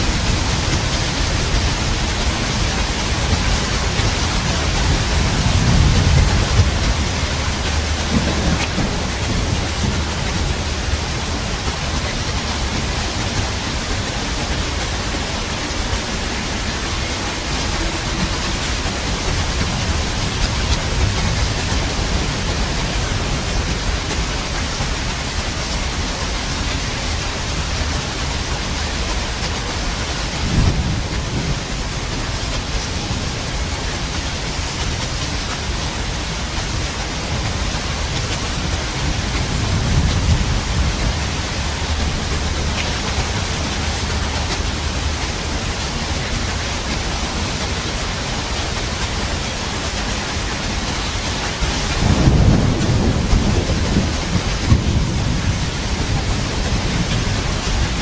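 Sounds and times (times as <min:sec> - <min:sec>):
heavy rain: 0:00.0 - 0:58.0
rolling thunder: 0:00.0 - 0:58.0.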